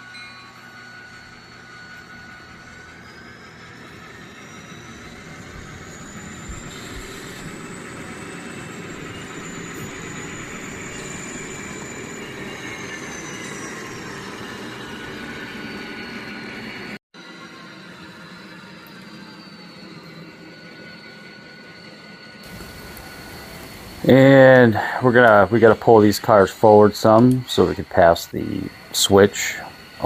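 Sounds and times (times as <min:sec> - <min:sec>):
high motor whine: 0:00.0 - 0:30.0
model train running on track: 0:00.0 - 0:30.0.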